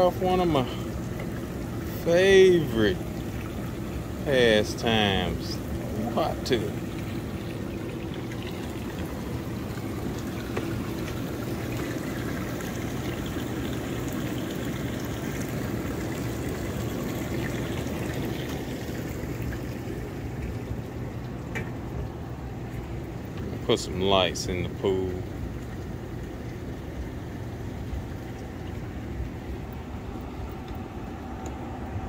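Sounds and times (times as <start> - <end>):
hot tub water bubbling: 0.0 - 32.0
low even hum: 0.0 - 32.0.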